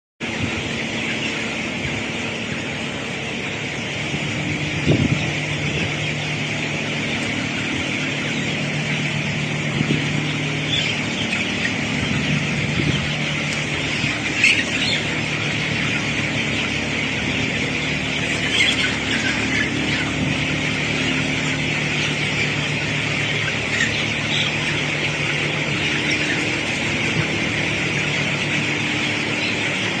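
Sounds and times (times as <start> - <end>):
chicks cheeping: 0.2 - 30.0
loud chick chirps: 0.2 - 30.0
steady low hum: 0.2 - 30.0.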